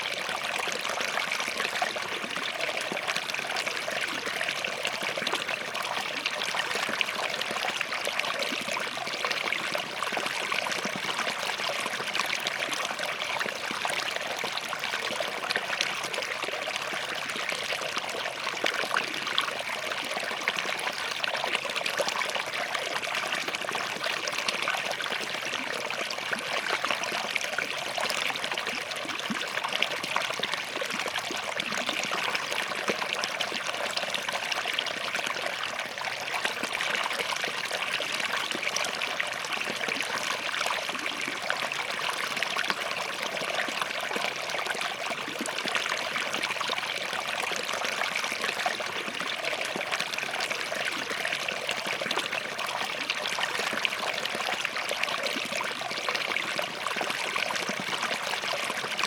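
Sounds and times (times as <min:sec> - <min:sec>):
stream trickling over rocks: 0:00.0 - 0:59.0.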